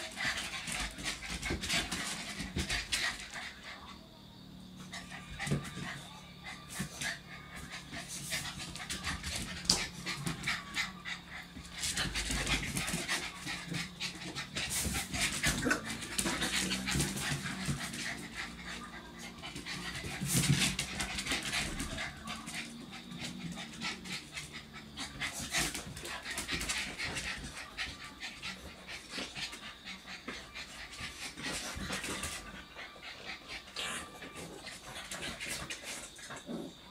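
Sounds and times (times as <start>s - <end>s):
puppies panting: 0.0s - 4.1s, 4.8s - 36.9s
puppies scuffling: 6.8s - 36.4s.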